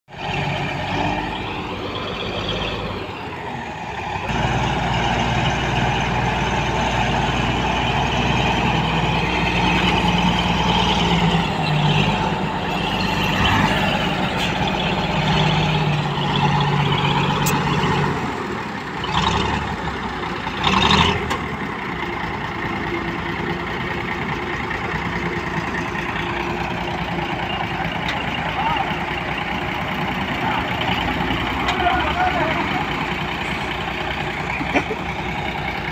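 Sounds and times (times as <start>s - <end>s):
bulldozer diesel engine running hard: 0.1s - 35.9s.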